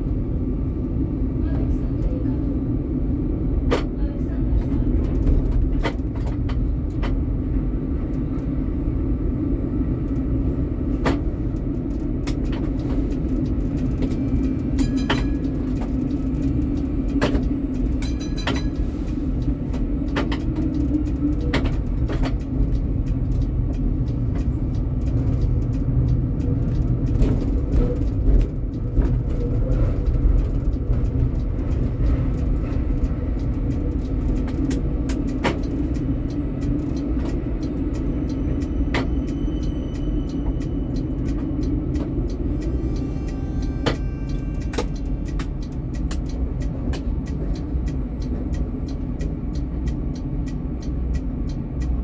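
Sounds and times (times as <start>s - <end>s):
tram wheels and motors humming: 0.0s - 52.0s.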